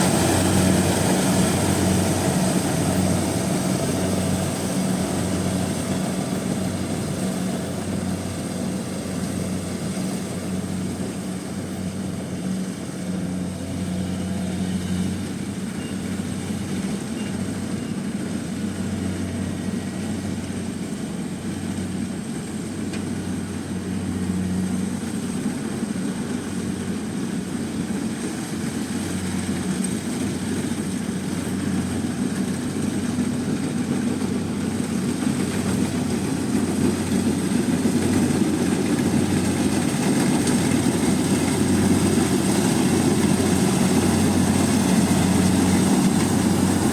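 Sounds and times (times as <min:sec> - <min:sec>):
combine harvester engine humming: 0:00.0 - 0:46.9.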